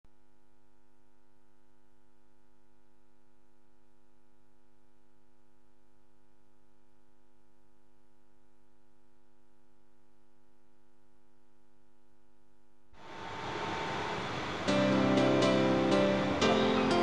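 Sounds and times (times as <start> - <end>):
faint electrical hum: 0.1 - 17.0.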